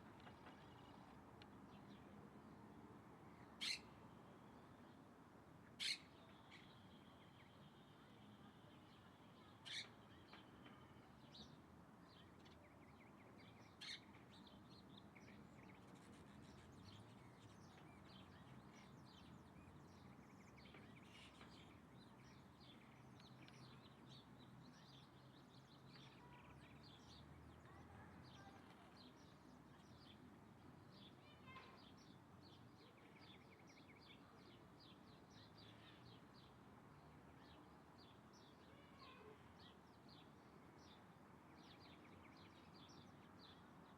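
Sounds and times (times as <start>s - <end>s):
small birds chirping: 3.2s - 4.9s, 5.8s - 43.9s.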